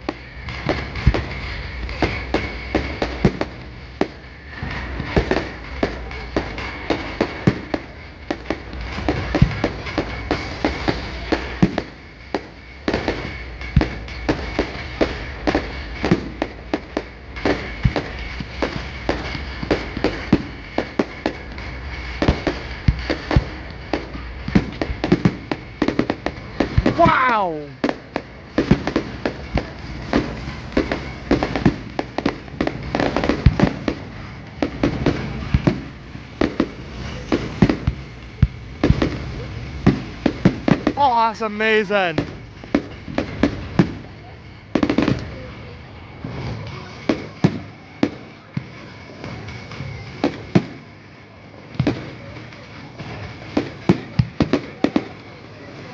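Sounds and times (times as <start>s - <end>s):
deep firework booms: 0.0s - 27.2s, 27.8s - 45.4s
fireworks bangs and crackles: 0.0s - 55.9s.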